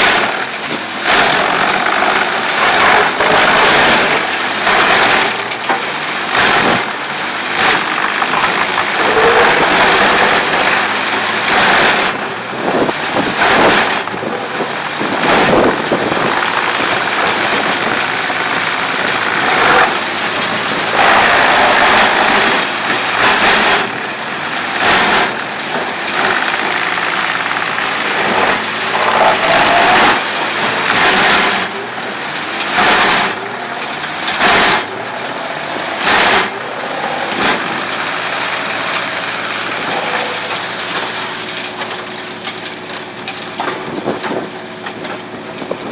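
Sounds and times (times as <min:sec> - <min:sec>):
wood chipper engine running: 0:00.0 - 0:45.9
wood crunching and shredding: 0:00.0 - 0:45.9.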